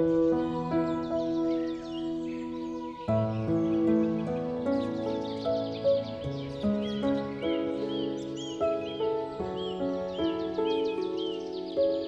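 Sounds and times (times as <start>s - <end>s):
slow melody of held notes: 0.0s - 12.0s.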